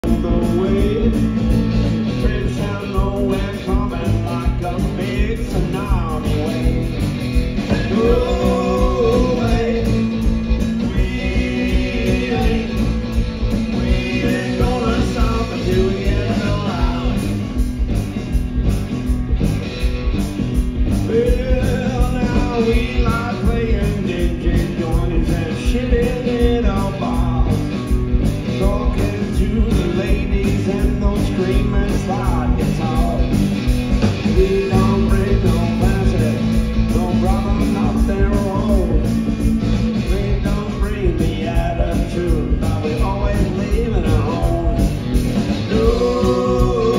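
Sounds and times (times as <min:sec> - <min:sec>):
blues-rock band playing: 0:00.0 - 0:46.9
gliding lead guitar line: 0:00.0 - 0:46.9.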